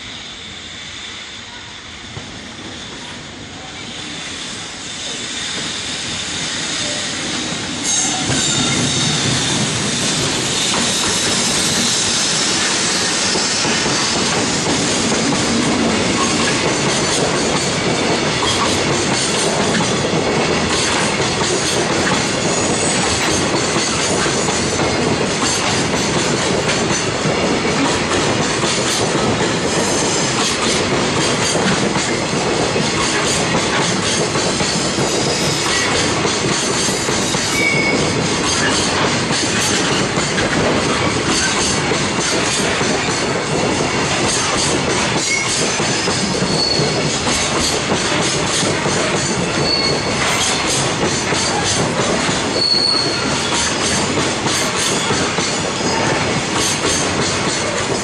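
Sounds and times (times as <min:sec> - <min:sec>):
freight train passing: 0:00.0 - 0:58.0
rail joint clicks: 0:05.0 - 0:58.0.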